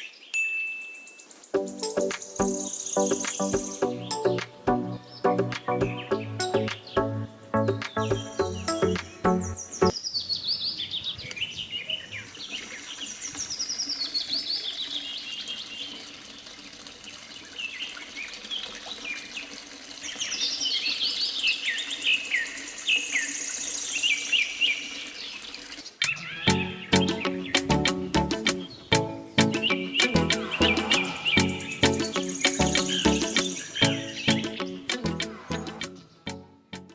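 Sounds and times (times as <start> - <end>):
birds chirping: 0.0 - 16.1, 17.1 - 36.5.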